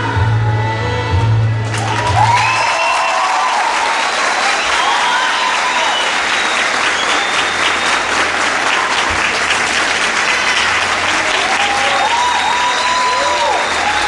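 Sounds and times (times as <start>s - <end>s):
audience applauding: 1.6s - 14.0s.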